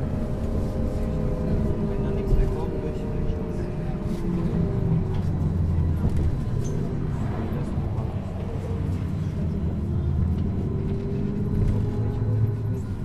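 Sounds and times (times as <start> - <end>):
trolleybus low rumble: 0.0 - 13.0.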